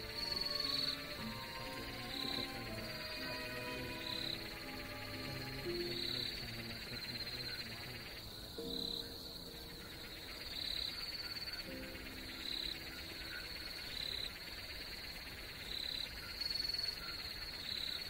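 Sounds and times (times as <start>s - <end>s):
insect chirps: 0.0s - 18.0s
night insects trilling: 0.0s - 18.0s.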